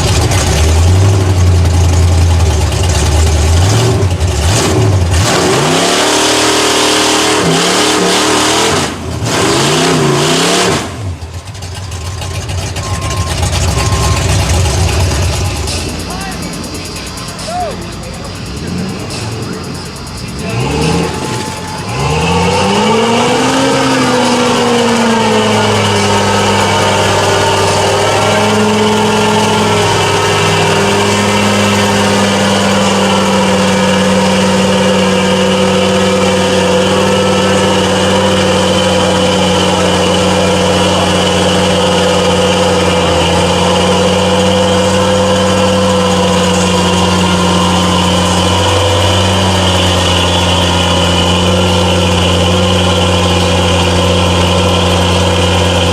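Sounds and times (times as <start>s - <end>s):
truck engine revving: 0.0s - 55.9s.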